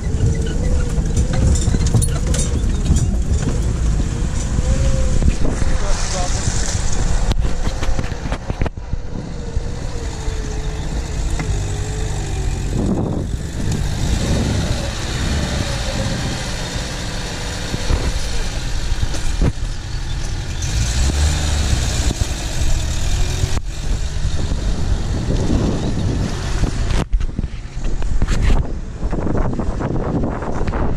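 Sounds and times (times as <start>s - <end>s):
car engine running: 0.0s - 28.2s
tyres rumbling on dirt: 0.0s - 30.9s
wind on microphone: 0.0s - 30.9s.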